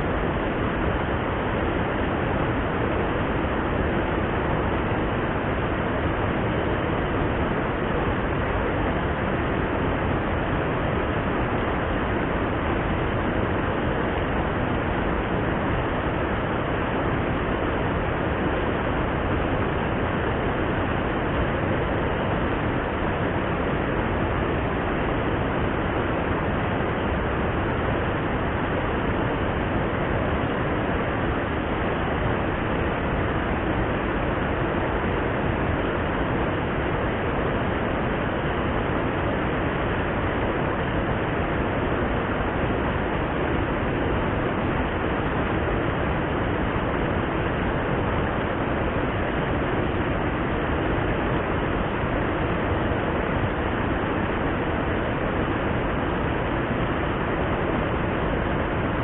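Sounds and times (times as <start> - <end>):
water roaring over a spillway: 0.0 - 59.0.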